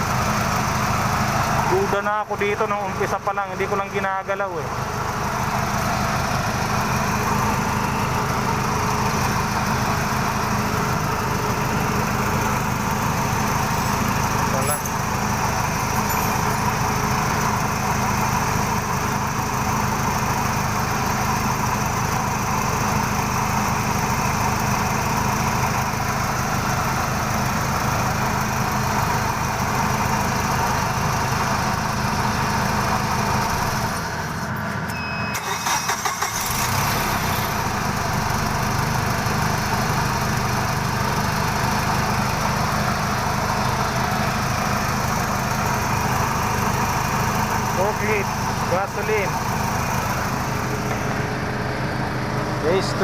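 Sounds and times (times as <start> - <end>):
forklift engine idling: 0.0 - 53.0.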